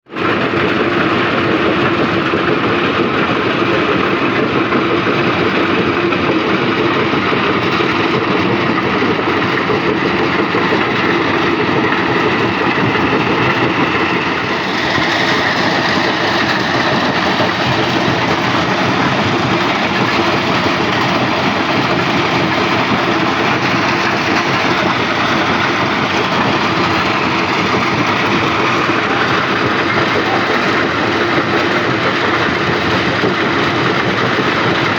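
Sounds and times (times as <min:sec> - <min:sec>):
stone crusher machine running: 0:00.1 - 0:34.9.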